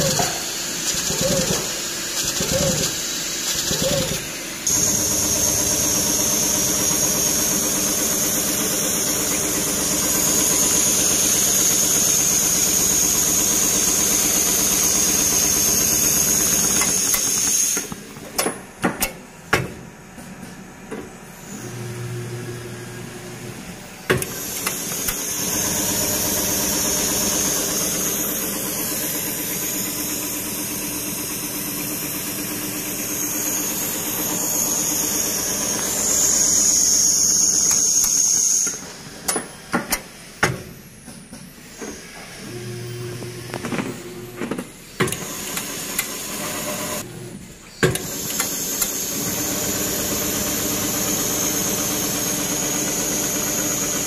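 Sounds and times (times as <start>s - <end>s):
sewing machine running with whine: 0.0s - 18.0s, 21.4s - 39.0s, 42.4s - 54.0s.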